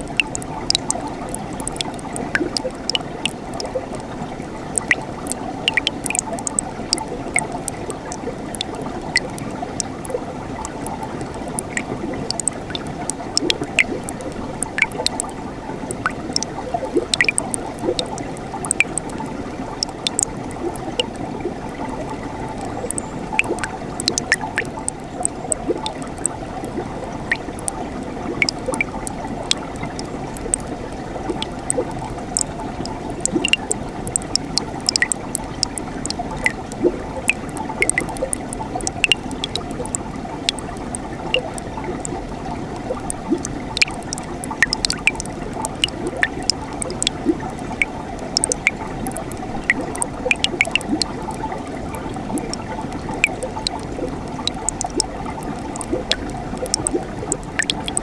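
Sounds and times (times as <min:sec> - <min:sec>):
stream flowing over rocks: 0:00.0 - 0:58.0
water splashes and drips: 0:00.0 - 0:58.0.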